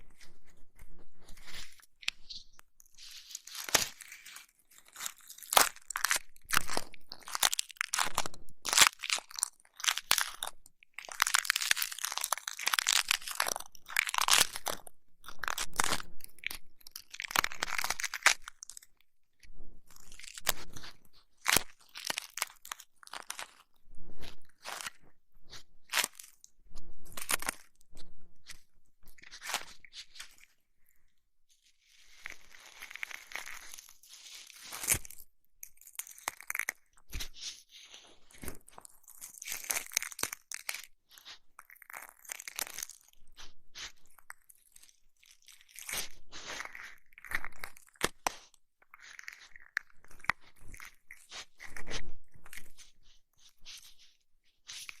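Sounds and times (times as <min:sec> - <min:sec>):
crackles and clicks: 0:00.0 - 0:31.0, 0:31.6 - 0:55.0.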